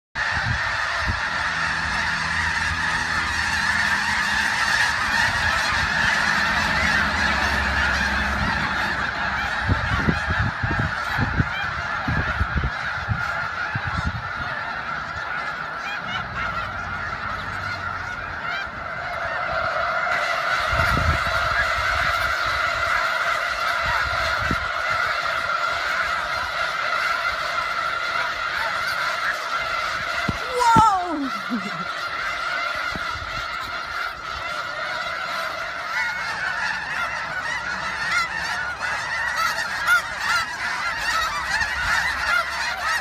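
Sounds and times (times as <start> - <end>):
geese honking: 0.2 - 43.0.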